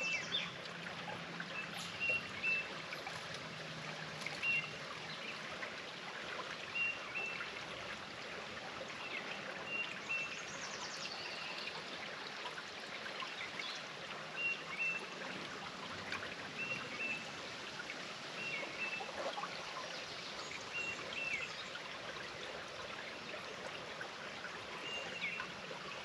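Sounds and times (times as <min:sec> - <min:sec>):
stream trickling: 0:00.0 - 0:26.0.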